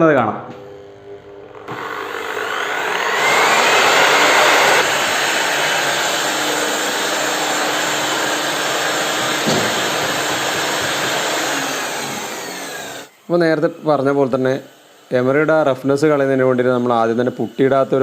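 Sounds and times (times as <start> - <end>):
electric disc sander whining: 0.5 - 18.0.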